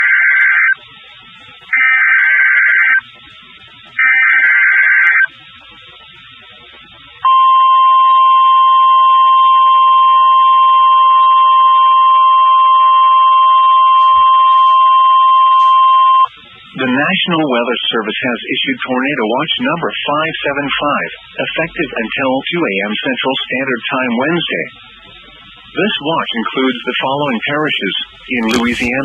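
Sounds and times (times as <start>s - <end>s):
steady alarm tone: 0.0s - 29.0s.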